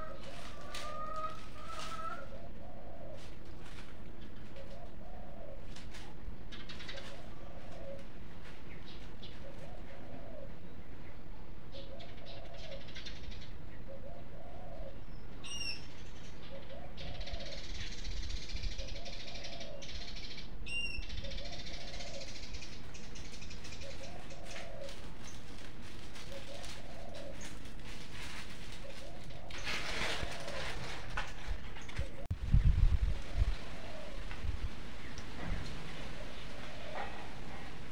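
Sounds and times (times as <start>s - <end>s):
dove cooing: 0.0s - 10.8s, 11.6s - 15.8s, 16.4s - 18.0s, 18.8s - 32.3s, 33.0s - 37.9s.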